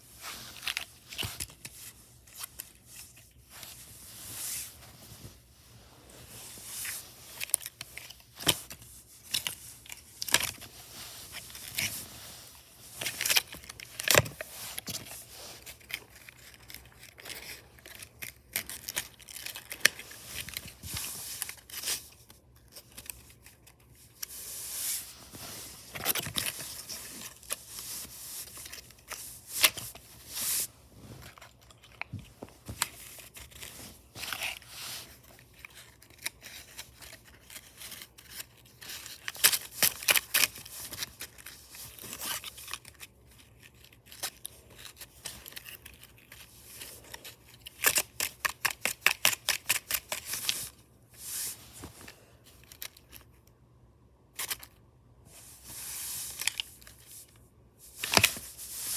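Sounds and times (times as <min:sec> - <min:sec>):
crinkling and tearing rustles: 0:00.0 - 0:53.4, 0:54.4 - 0:58.9.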